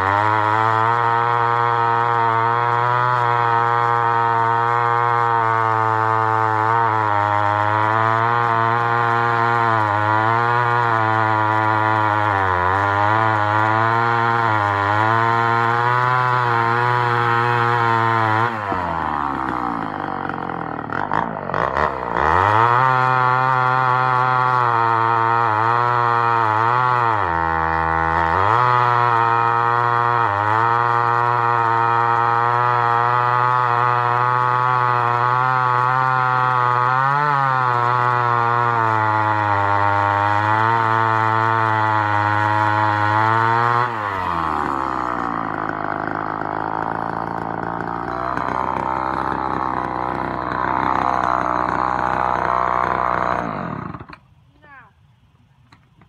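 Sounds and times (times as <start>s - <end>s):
chainsaw cutting log: 0.0s - 54.9s, 55.5s - 56.0s.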